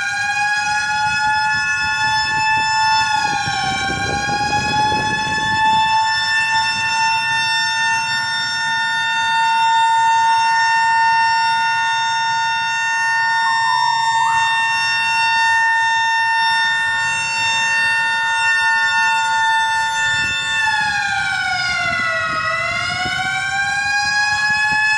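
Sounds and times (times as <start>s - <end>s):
city siren wailing: 0.0s - 24.9s.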